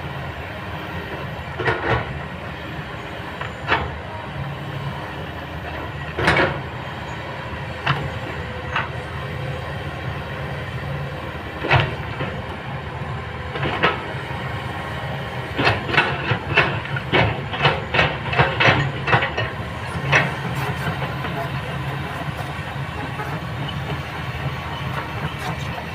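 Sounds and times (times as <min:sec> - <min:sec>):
excavator engine hum: 0:00.0 - 0:25.9.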